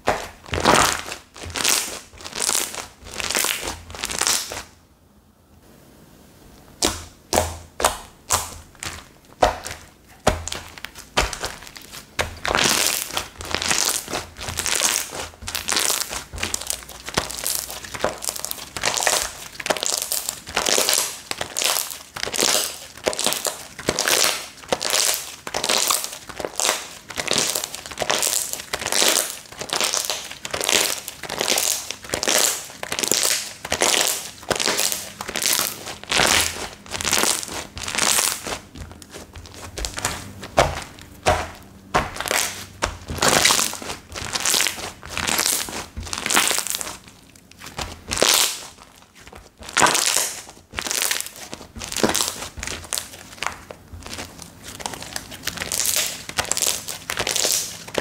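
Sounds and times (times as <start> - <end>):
slime squishing and popping: 0.0 - 4.7, 6.8 - 58.0.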